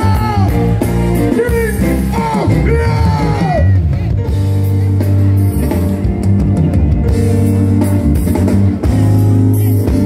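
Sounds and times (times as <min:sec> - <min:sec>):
bass guitar low notes: 0:00.0 - 0:10.0
drum kit: 0:00.0 - 0:10.0
electric guitar: 0:00.0 - 0:10.0.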